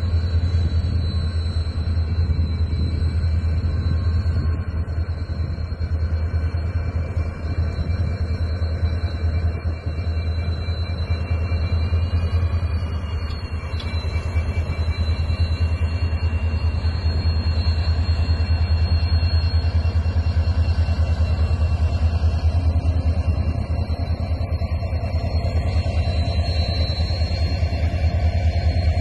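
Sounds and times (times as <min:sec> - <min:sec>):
diesel locomotive engine rumbling: 0:00.0 - 0:29.0
faint high whine: 0:00.0 - 0:29.0.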